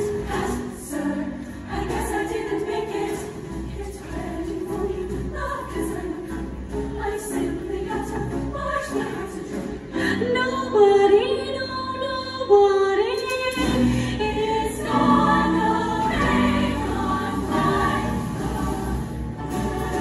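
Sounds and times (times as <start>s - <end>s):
choir singing: 0.0s - 10.8s, 13.2s - 20.0s.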